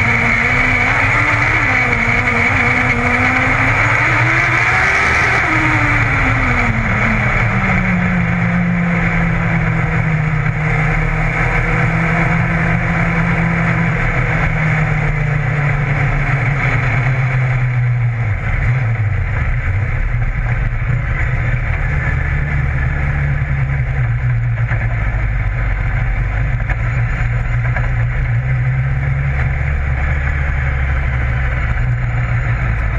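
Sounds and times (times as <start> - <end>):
race car engine from cockpit: 0.0 - 32.9.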